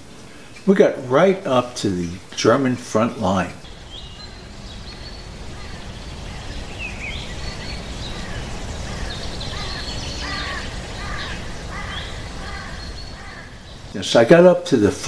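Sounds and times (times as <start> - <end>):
birds chirping and singing: 1.5 - 15.0.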